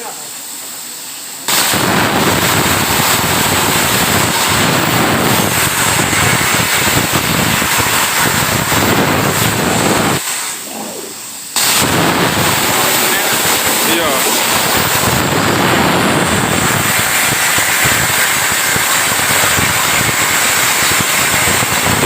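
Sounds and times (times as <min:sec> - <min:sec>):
plasma torch arc hissing: 0:00.0 - 0:22.0.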